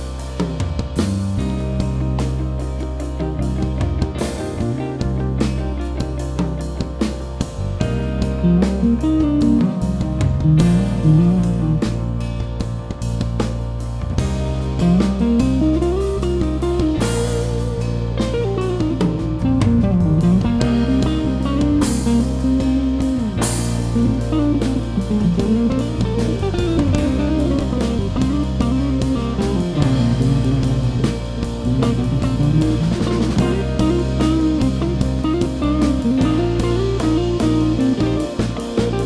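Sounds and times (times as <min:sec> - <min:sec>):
bass guitar: 0:00.0 - 0:39.0
drum kit: 0:00.0 - 0:39.0
guitar melodic lead: 0:00.0 - 0:39.0.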